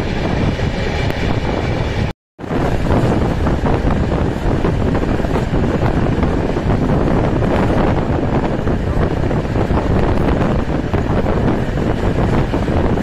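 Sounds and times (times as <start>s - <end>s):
passenger train rumble: 0.0s - 13.0s
wind rushing on microphone: 0.0s - 13.0s.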